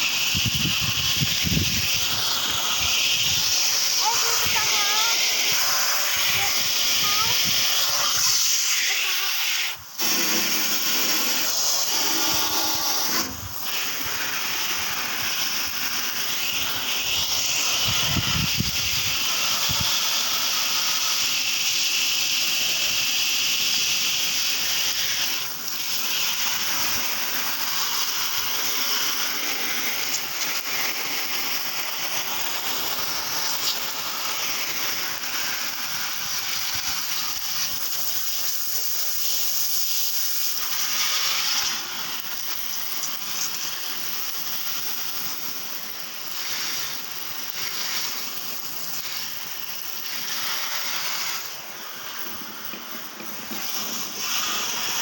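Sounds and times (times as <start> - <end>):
sea water rushing hiss: 0.0 - 55.0.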